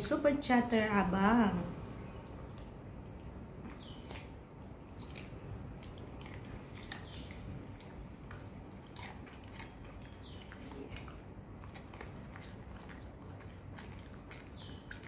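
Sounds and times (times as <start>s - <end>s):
dog crunching cucumber: 1.5s - 15.0s.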